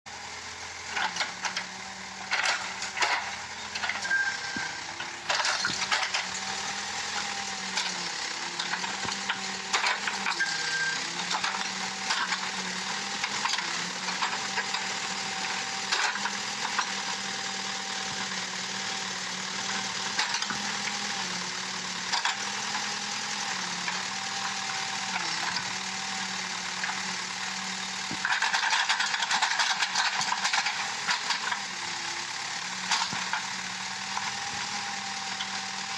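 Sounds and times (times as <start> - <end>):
backhoe diesel engine running: 0.1 - 35.9.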